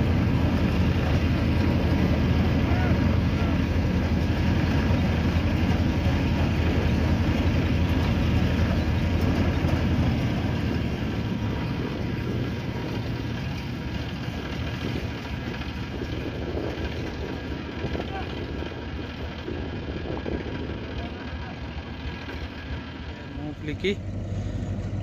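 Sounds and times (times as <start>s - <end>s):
tractor engine driving thresher: 0.0s - 25.0s.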